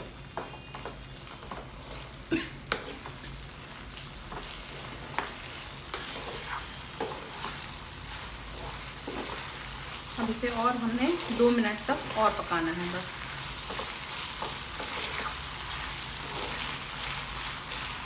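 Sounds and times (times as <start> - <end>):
food sizzling in a frying pan: 0.0 - 18.0
spatula scraping pan: 0.3 - 3.4, 4.3 - 18.0.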